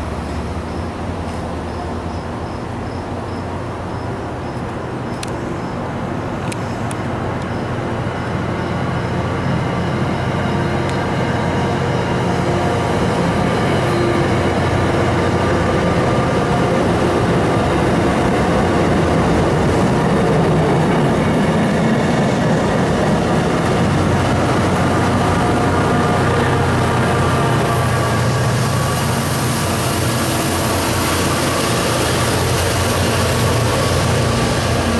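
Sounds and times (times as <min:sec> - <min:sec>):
diesel locomotive engine rumble: 0:00.0 - 0:34.9
train coaches rolling past: 0:00.0 - 0:34.9.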